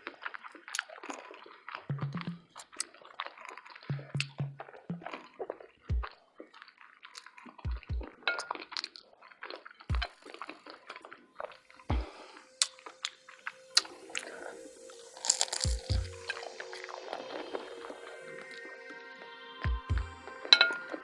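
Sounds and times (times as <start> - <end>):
wet chewing: 0.0 - 14.5, 15.2 - 17.6.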